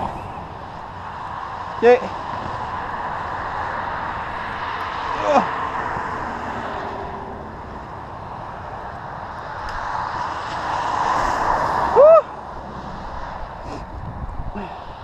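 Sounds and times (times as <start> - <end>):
tires rushing through wet snow: 0.0 - 15.0.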